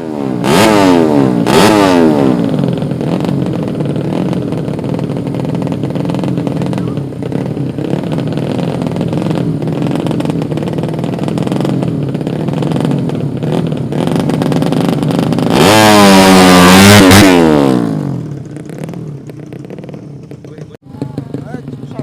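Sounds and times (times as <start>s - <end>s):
motorcycle accelerating past: 0.0s - 22.0s
motorcycles running: 0.0s - 22.0s.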